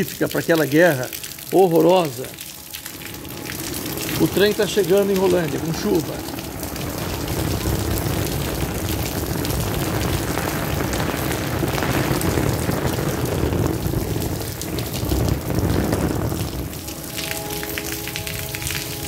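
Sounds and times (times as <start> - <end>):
heavy rain pouring: 0.0 - 19.0
water splashing on wet tiles: 0.0 - 19.0.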